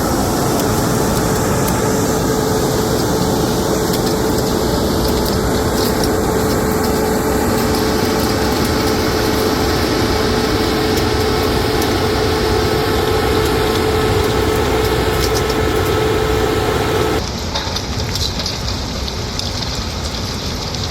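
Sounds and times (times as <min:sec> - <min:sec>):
jaw crusher machine hum: 0:00.0 - 0:17.2.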